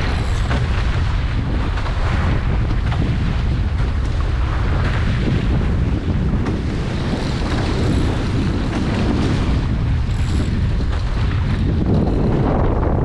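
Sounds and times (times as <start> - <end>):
water rushing along hulls: 0.0 - 13.0
wind rumbling on microphone: 0.0 - 13.0.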